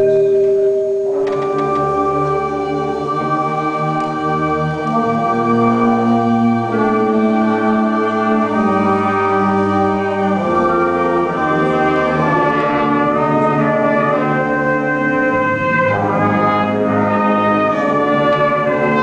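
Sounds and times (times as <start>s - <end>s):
band playing wind chords: 0.0s - 19.0s.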